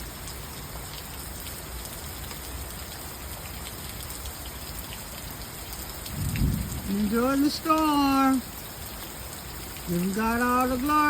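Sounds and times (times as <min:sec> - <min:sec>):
rain hissing: 0:00.0 - 0:11.0
raindrops tapping: 0:00.0 - 0:11.0.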